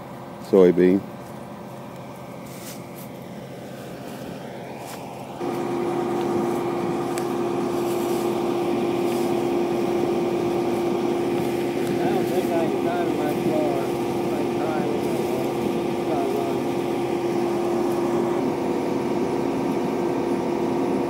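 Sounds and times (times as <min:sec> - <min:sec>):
combine engine running: 0:00.0 - 0:21.0.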